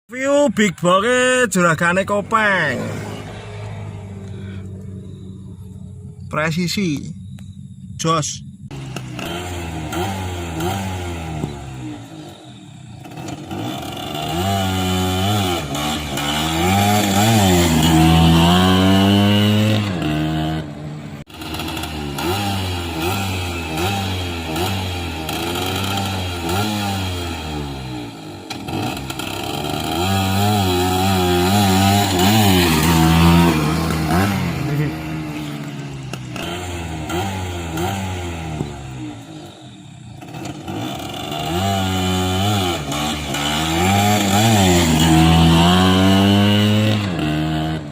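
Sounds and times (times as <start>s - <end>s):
motorcycle engine revving: 0.9s - 47.9s.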